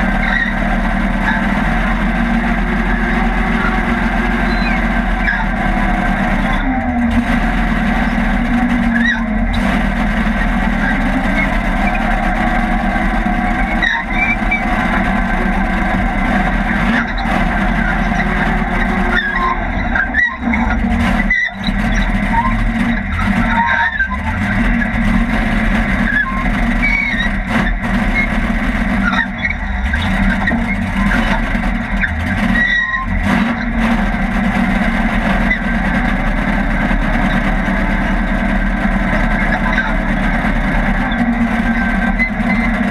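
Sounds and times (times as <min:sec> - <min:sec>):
race car engine running hard: 0:00.0 - 0:42.9.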